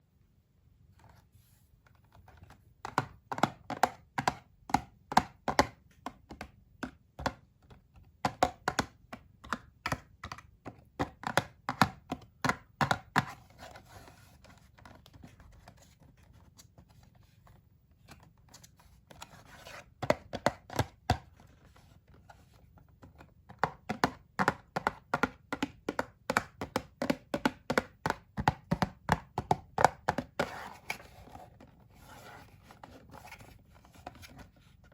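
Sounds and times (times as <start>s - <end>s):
sharp taps and clicks on packaging: 2.0s - 17.1s, 18.0s - 34.9s.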